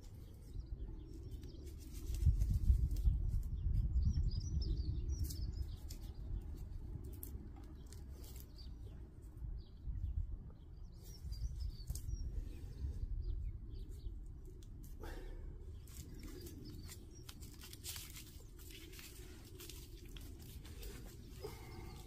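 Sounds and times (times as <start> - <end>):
hands rustling in soil: 0.0 - 22.0
small birds chirping: 0.0 - 22.0
steady low rumble: 0.0 - 22.0.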